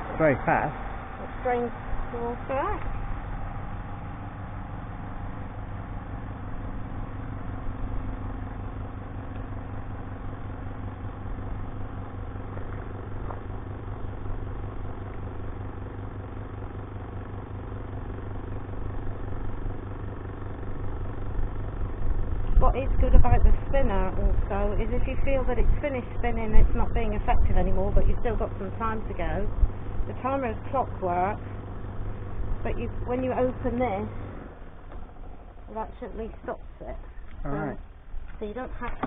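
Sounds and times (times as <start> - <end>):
spin-dryer motor hum: 0.0 - 39.0.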